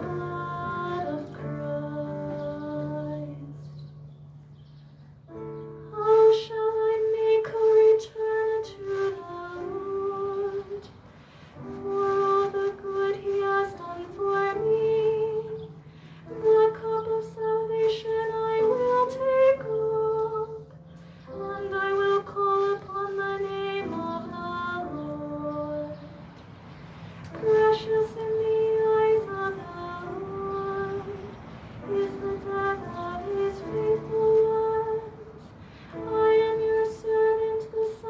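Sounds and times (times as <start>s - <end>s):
woman singing a psalm: 0.0s - 3.9s, 5.8s - 38.0s
keyboard accompaniment: 0.0s - 38.0s.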